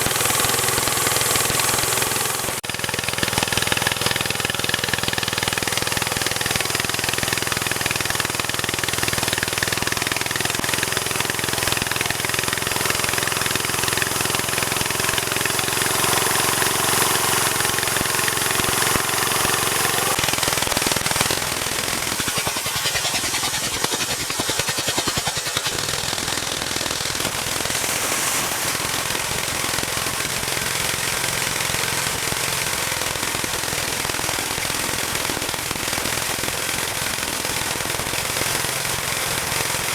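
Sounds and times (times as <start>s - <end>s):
rapid rattle of pops: 0.0s - 39.9s
small engine running: 0.0s - 39.9s.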